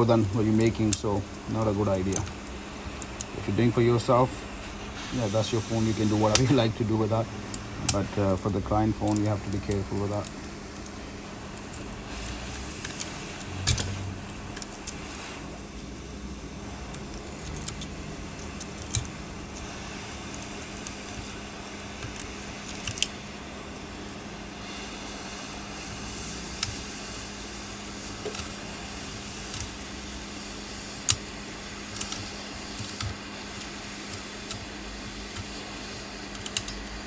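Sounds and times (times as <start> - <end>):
heat gun humming: 0.0 - 37.0.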